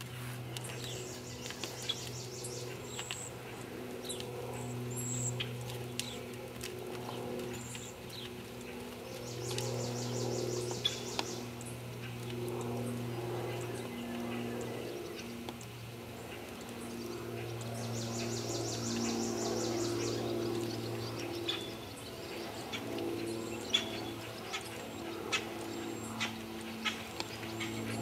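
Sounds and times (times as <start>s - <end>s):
low hum: 0.0s - 28.0s
small birds calling: 0.0s - 28.0s.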